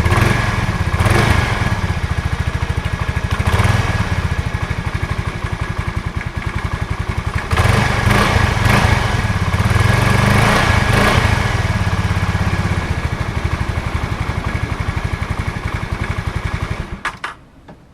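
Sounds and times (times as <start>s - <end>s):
scooter engine idling and revving: 0.0s - 17.6s.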